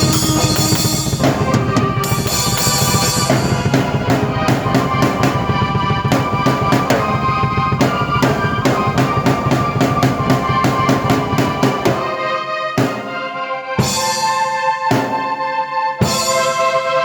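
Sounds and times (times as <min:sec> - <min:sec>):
drum kit beat: 0:00.0 - 0:13.2, 0:13.8 - 0:17.0
keyboard chords: 0:00.0 - 0:17.0.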